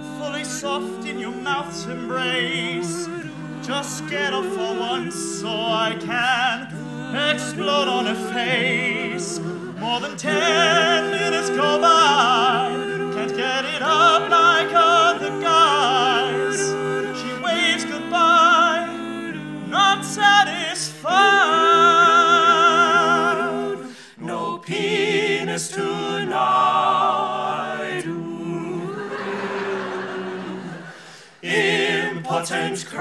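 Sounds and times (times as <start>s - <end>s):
a cappella group singing: 0.0s - 33.0s.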